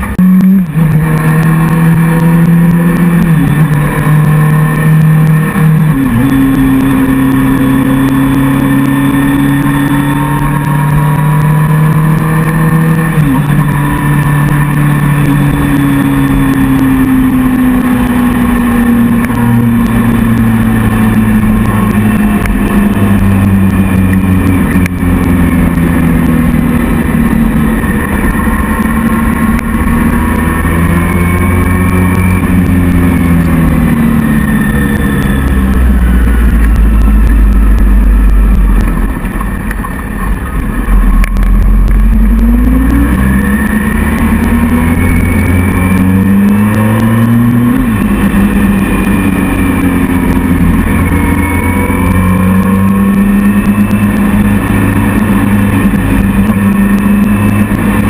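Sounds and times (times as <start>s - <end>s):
motorcycle engine: 0.0s - 58.0s.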